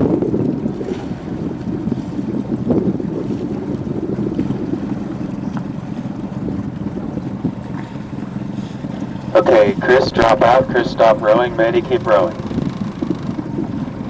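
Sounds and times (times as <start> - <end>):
water moving past boat: 0.0 - 14.0
wind on microphone: 0.0 - 14.0.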